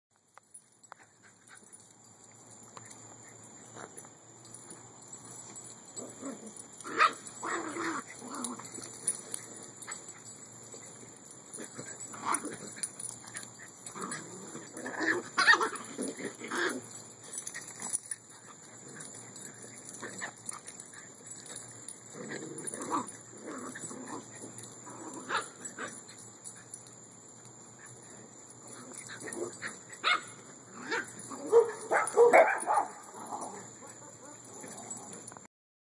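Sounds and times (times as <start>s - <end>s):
dogs yipping and barking: 0.5s - 35.4s.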